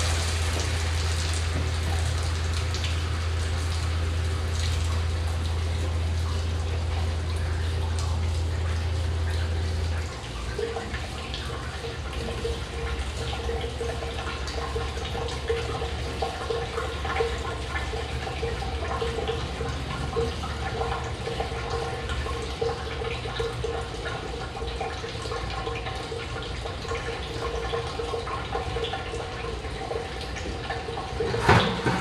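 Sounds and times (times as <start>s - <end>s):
steady machine hum: 0.0s - 32.0s
water spraying and dripping: 0.0s - 32.0s.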